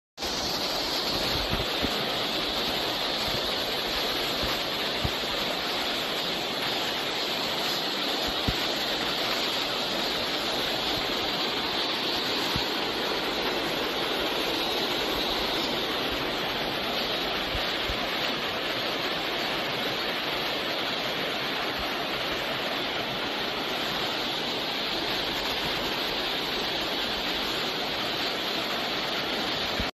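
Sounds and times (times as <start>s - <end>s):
stream rushing over stones: 0.2s - 29.9s.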